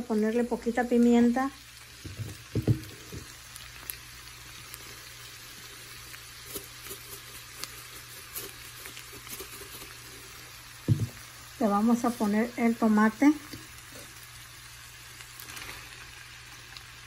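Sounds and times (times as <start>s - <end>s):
shrimp sizzling in a frying pan: 0.0s - 17.0s.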